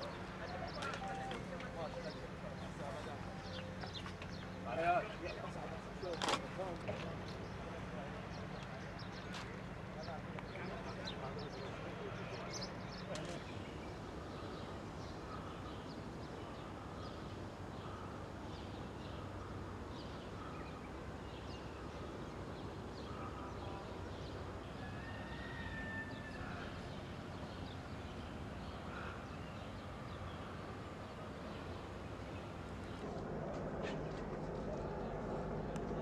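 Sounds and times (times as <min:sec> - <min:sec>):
low background noise: 0:00.0 - 0:36.0.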